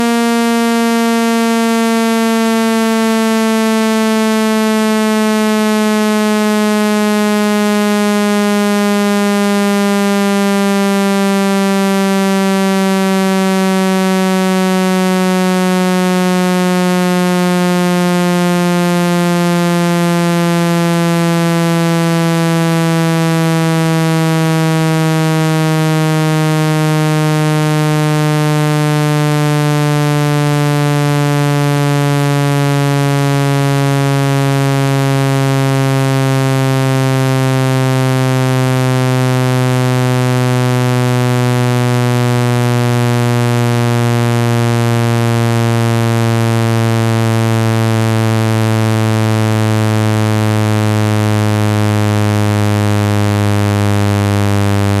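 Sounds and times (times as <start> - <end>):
buzzy low synthesized tone: 0.0 - 55.0.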